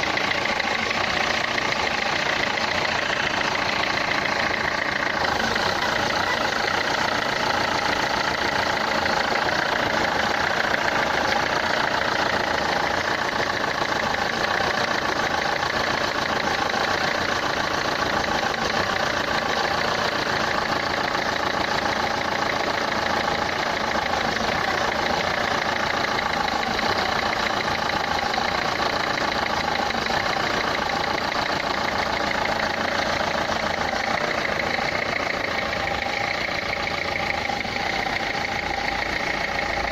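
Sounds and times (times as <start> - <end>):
diesel engine idling with clatter: 0.0 - 39.9.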